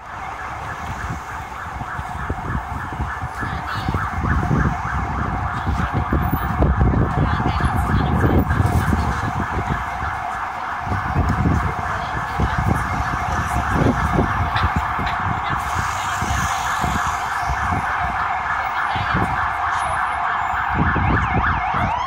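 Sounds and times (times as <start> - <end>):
city traffic rumble: 0.0 - 22.0
emergency siren pulsing: 0.0 - 22.0.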